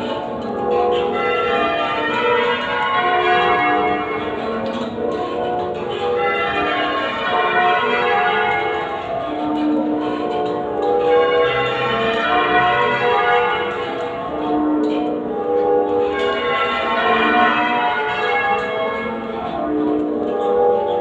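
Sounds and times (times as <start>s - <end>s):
muffled church bells ringing: 0.0s - 21.0s.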